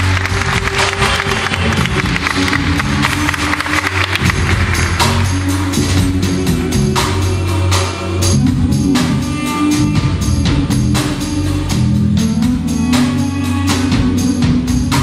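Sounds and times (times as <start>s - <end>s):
duduk melody: 0.0s - 15.0s
low bass drone: 0.0s - 15.0s.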